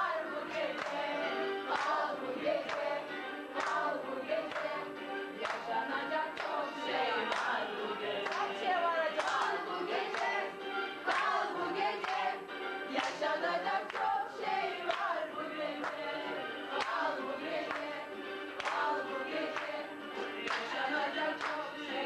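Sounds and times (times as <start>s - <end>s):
people clapping in time: 0.0s - 7.6s, 8.2s - 10.5s, 11.1s - 12.4s, 13.0s - 14.2s, 14.8s - 15.2s, 15.8s - 16.1s, 16.7s - 21.8s
group of people singing: 0.0s - 22.0s.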